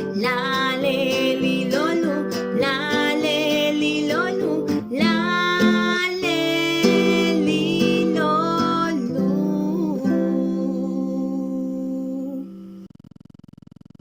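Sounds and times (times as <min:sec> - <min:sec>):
acoustic guitar strumming: 0:00.0 - 0:12.9.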